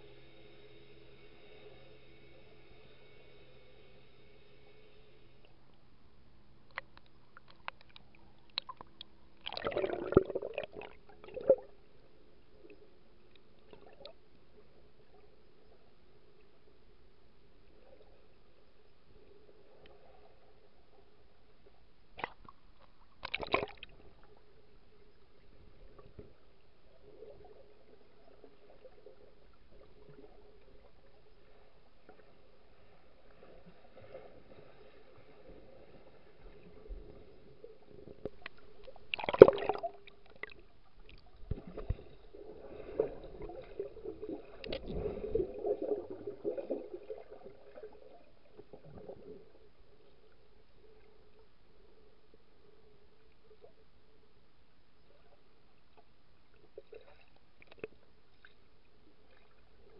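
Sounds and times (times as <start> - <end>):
faint underwater hum: 0.0 - 59.9
bubbling and gurgling water: 6.6 - 16.7, 17.6 - 54.3, 55.0 - 59.9.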